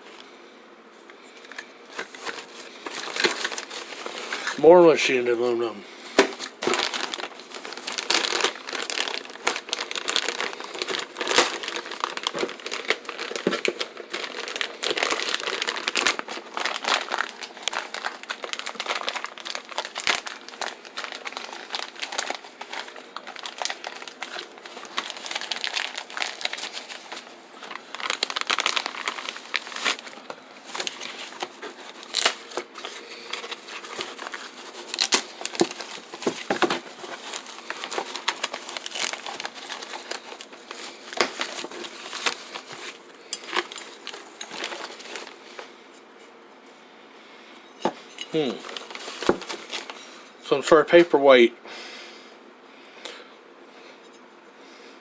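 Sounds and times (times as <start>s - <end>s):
plastic packaging crinkling: 1.2s - 46.2s, 47.8s - 51.2s.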